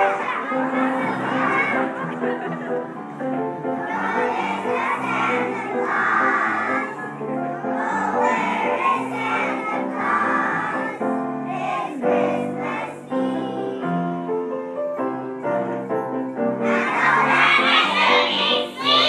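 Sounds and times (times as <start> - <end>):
children's choir singing: 0.0 - 15.0, 15.6 - 19.0
musical accompaniment: 0.0 - 19.0.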